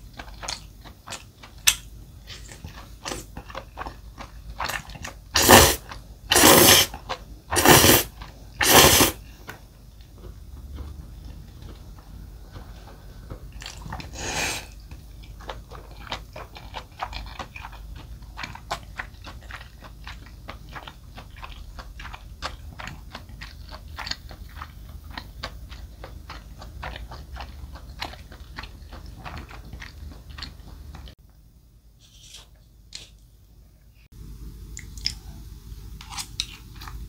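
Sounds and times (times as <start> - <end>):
chewing crunchy noodles: 0.0 - 9.4, 10.0 - 31.2.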